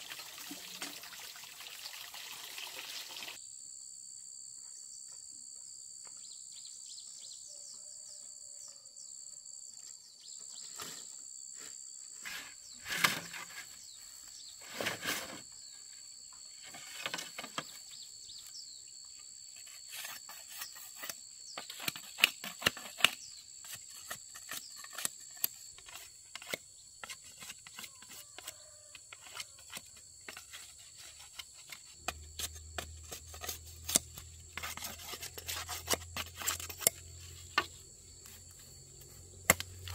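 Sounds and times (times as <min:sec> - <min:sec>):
insects chirring: 0:01.2 - 0:39.9.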